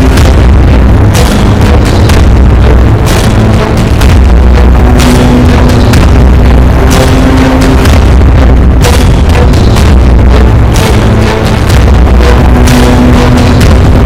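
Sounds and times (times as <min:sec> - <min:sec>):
background music with drums: 0:00.0 - 0:14.0
deep steady bass: 0:00.0 - 0:14.0.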